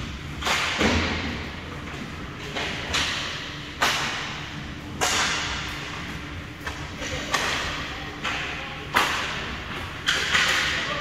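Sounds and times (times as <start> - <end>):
hockey sticks and puck knocks: 0.3 - 11.0.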